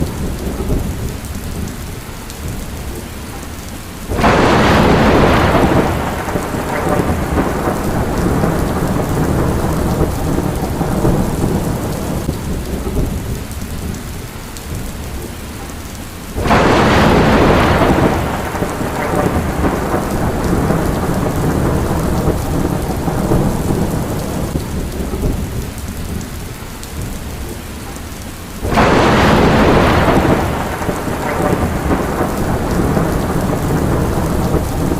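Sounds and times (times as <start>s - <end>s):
thunder cracking and rumbling: 0.0s - 3.2s, 4.1s - 15.7s, 16.3s - 27.6s, 28.6s - 34.9s
heavy rain: 0.0s - 34.9s.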